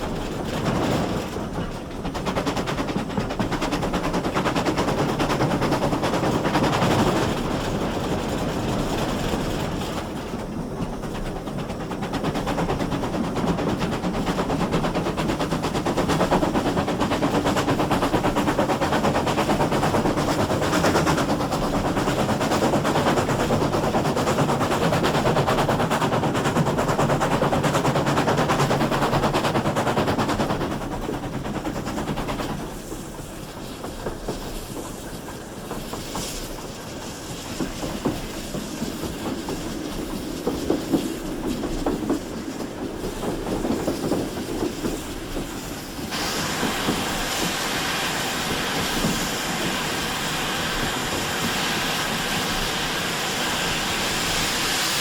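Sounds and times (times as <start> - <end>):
train running noise: 0.0 - 55.0
wheel clatter over rail joints: 0.0 - 55.0.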